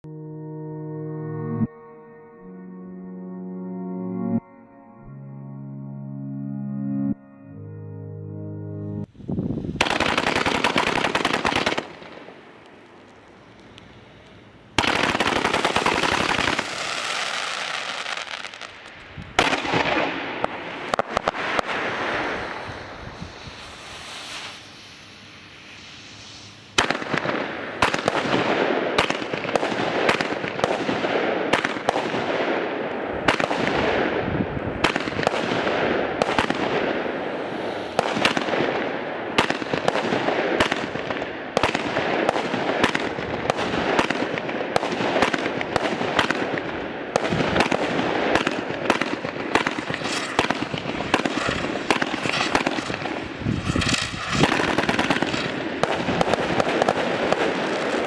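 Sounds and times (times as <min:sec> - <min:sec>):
crackling firework stars: 0:09.0 - 0:58.0
fireworks launching and bursting: 0:09.3 - 0:58.0.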